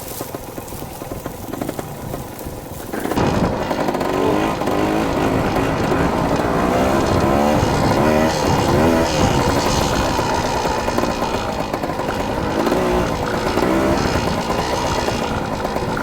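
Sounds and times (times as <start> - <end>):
dirt bike engine revving: 0.5 - 16.0.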